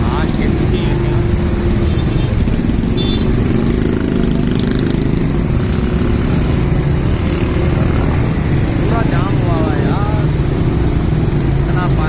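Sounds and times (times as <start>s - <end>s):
road traffic: 0.0s - 12.0s
vehicle engine rumbling: 0.0s - 12.0s.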